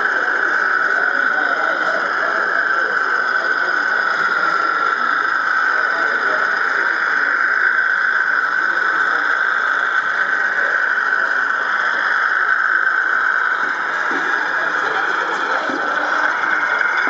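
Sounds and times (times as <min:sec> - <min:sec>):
faint hall chatter: 0:00.0 - 0:17.0
model train whine: 0:00.0 - 0:17.0.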